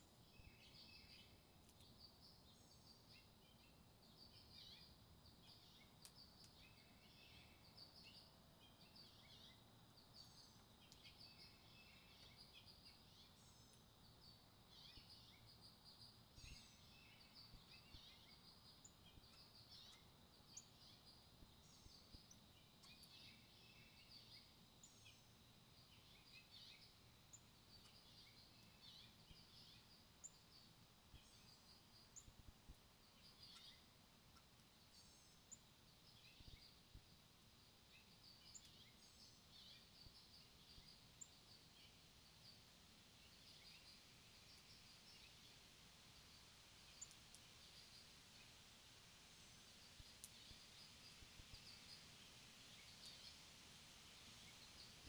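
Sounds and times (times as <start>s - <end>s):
songbird chirps: 0.0s - 55.0s.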